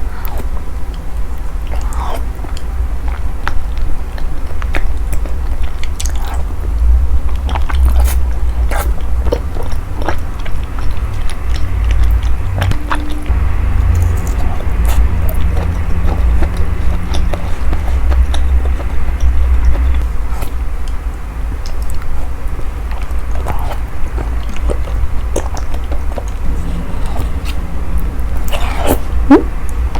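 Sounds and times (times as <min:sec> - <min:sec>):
steady low rumble: 0:00.0 - 0:29.9
biting and chewing food: 0:00.1 - 0:29.4.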